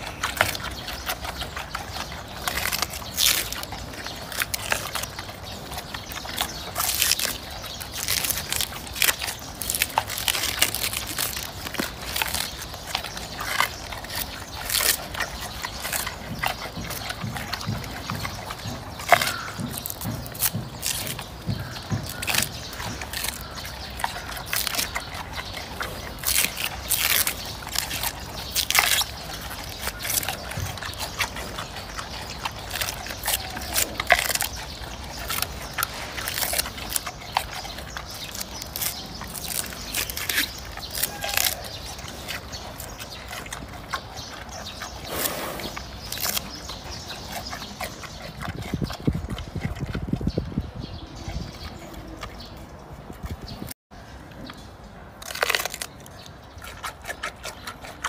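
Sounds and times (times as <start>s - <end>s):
panda crunching bamboo: 0.0s - 58.0s.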